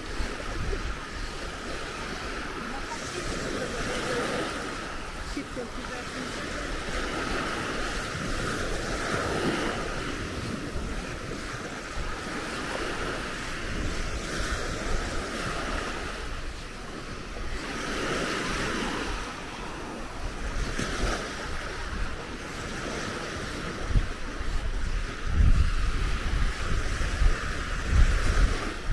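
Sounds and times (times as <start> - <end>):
waves washing onto a beach: 0.0 - 28.9
wind noise on microphone: 0.0 - 28.9.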